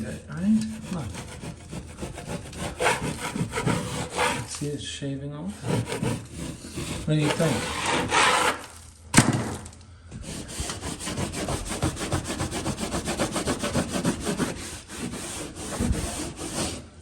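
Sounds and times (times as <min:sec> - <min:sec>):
hand tool scraping plaster: 0:00.0 - 0:04.8, 0:05.5 - 0:08.8, 0:10.2 - 0:16.9.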